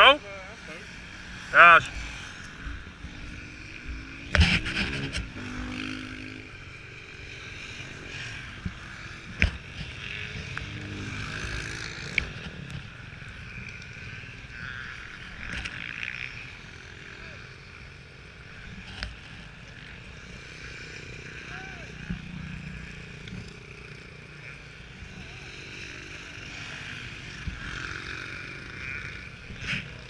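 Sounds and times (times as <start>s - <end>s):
distant motocross engines revving: 0.0s - 30.0s.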